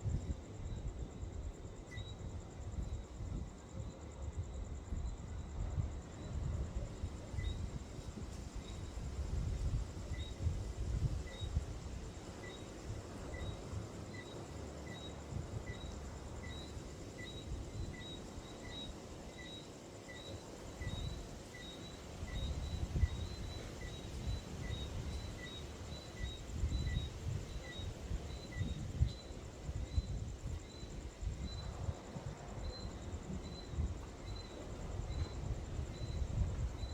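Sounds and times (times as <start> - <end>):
insects buzzing: 0.0 - 36.9.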